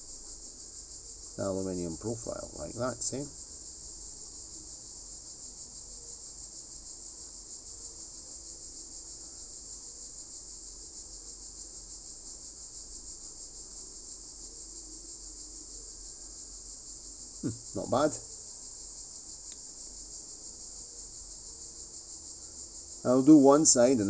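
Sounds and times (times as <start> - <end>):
high-pitched pulsing hiss: 0.0 - 24.0.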